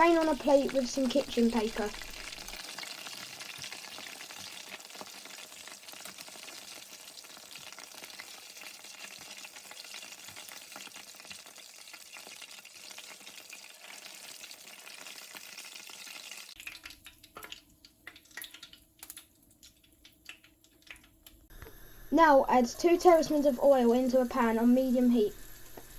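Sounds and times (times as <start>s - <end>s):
chicken sizzling in hot oil: 0.0s - 25.6s.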